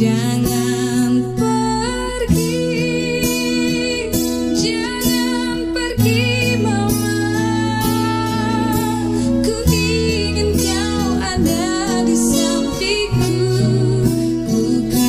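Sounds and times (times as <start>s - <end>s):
plucked acoustic guitar: 0.0s - 15.0s
woman singing: 0.0s - 15.0s.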